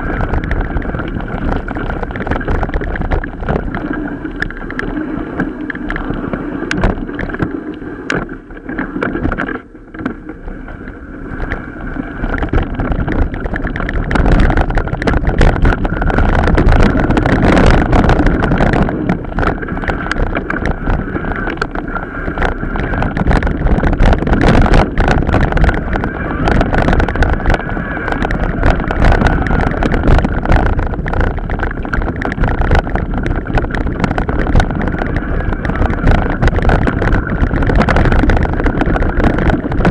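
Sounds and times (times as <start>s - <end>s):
bike knocks and rattles: 0.0s - 4.9s, 5.7s - 7.5s, 12.3s - 39.9s
mountain bike rumbling: 0.0s - 39.9s.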